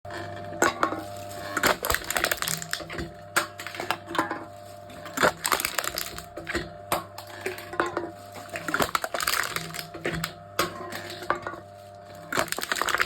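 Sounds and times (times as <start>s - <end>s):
machine crushing aluminium cans: 0.1s - 13.0s
steady machine hum: 0.1s - 13.0s.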